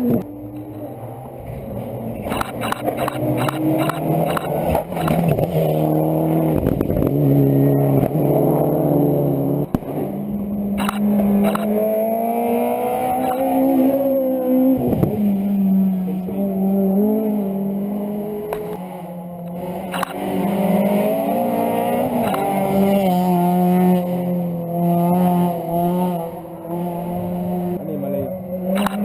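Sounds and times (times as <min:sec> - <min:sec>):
rally car engine accelerating: 0:00.0 - 0:29.0.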